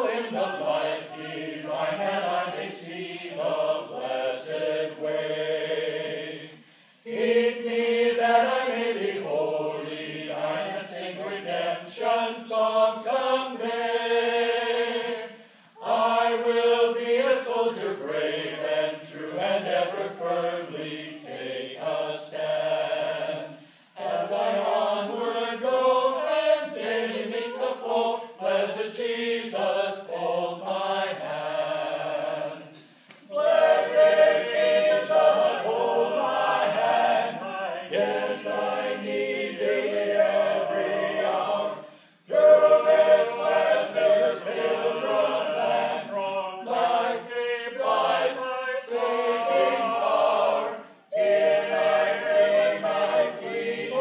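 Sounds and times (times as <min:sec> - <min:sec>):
a cappella group singing harmony: 0:00.0 - 0:54.0.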